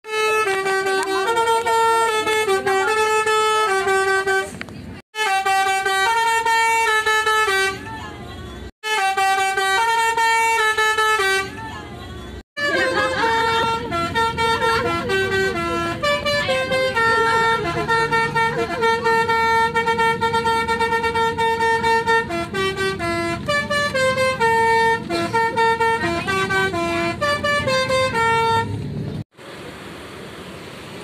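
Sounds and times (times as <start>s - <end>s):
bus horn melody: 0.0s - 28.8s
bus engine running: 0.0s - 31.0s.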